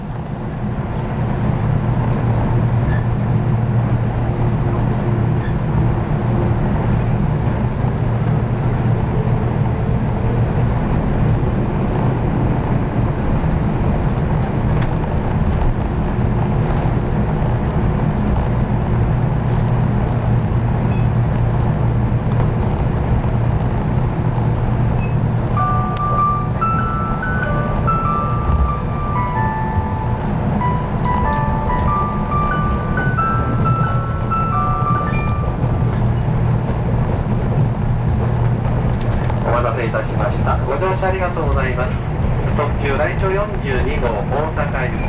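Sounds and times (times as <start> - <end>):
train interior rumble and hum: 0.0 - 45.0.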